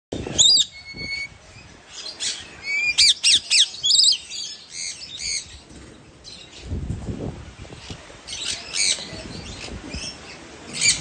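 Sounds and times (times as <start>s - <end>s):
lorikeets squawking and chirping: 0.2s - 6.7s, 7.7s - 11.0s.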